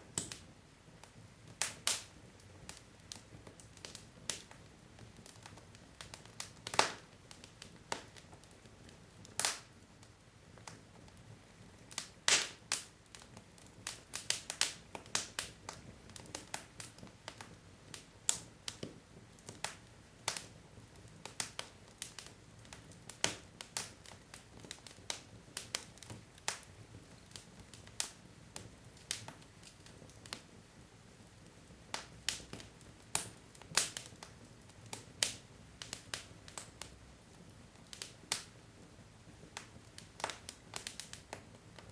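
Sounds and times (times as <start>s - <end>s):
fire crackling and popping: 0.0s - 41.9s
low hiss of fire: 0.0s - 41.9s.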